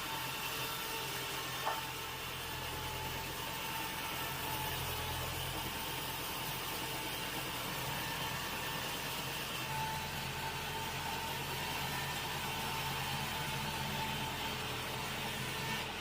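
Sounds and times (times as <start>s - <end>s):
sawmill machinery humming: 0.0s - 16.0s.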